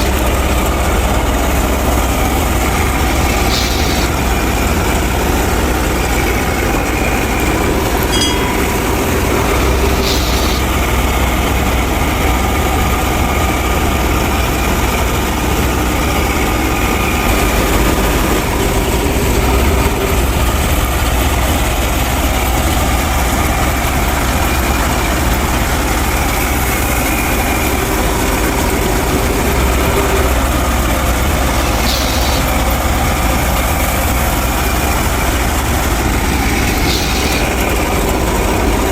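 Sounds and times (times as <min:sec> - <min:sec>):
thresher machinery noise: 0:00.0 - 0:38.9
tractor engine running: 0:00.0 - 0:38.9.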